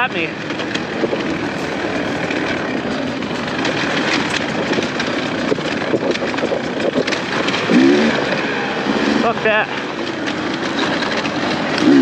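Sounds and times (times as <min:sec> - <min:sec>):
dirt bike engine: 0:00.0 - 0:12.0
steady rushing noise: 0:00.0 - 0:12.0.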